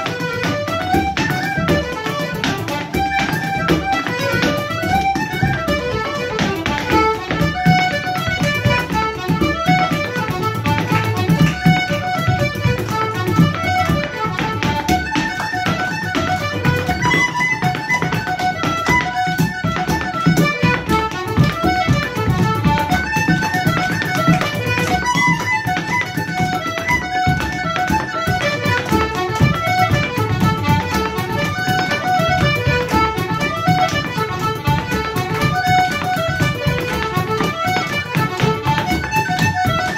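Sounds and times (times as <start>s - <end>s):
button accordion: 0.0s - 39.9s
dance steps on wooden floor: 0.0s - 39.9s
frame drum beat: 0.0s - 39.9s.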